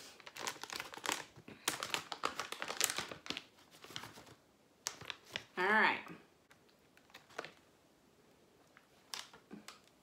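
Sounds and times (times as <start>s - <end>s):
plastic pouch crinkling: 0.0s - 5.6s, 6.5s - 7.7s, 8.7s - 10.0s.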